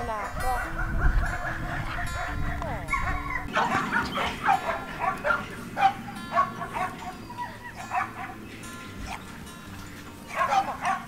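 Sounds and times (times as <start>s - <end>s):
dogs barking and yipping: 0.0s - 11.0s
faint background music: 0.0s - 11.0s.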